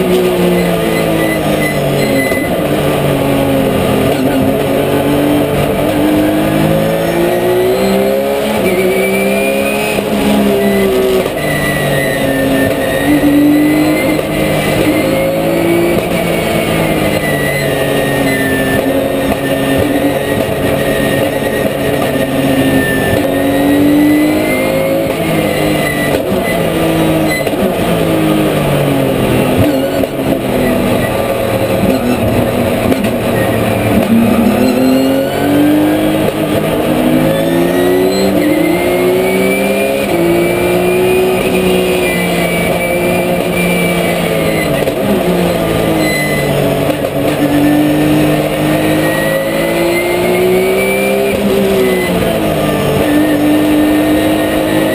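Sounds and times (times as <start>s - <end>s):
race car engine revving: 0.0s - 54.9s.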